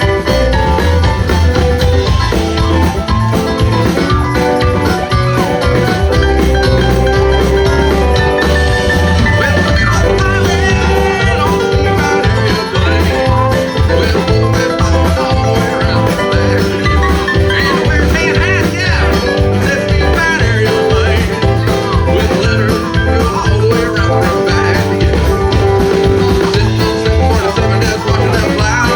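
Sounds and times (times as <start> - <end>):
live band playing amplified music: 0.0 - 28.9.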